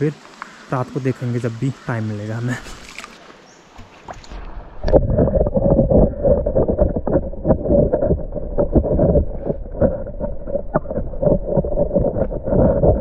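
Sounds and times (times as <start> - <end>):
muffled underwater stream rush: 0.0 - 13.0.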